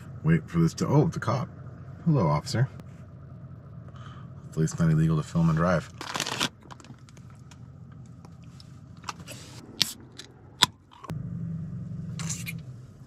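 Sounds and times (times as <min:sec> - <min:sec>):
truck cab road hum: 0:00.0 - 0:13.0.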